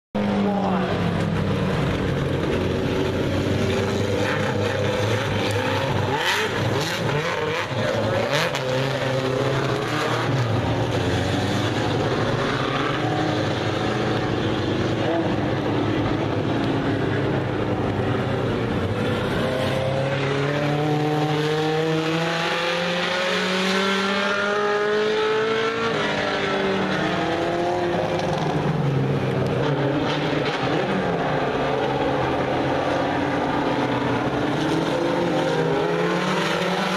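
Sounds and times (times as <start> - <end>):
race car engines passing: 0.2 - 36.9.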